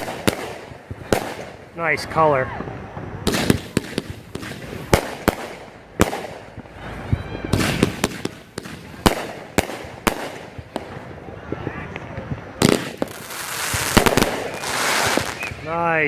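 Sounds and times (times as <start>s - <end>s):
fireworks sharp bangs: 0.0s - 16.0s.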